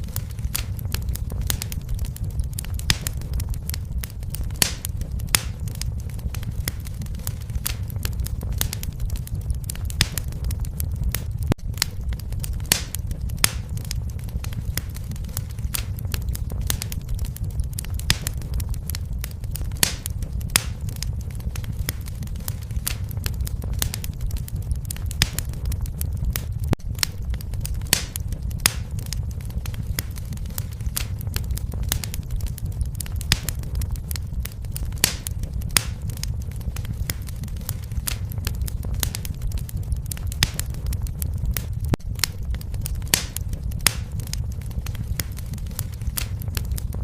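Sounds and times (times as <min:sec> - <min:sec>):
fireplace fire crackling and popping: 0:00.0 - 0:47.0.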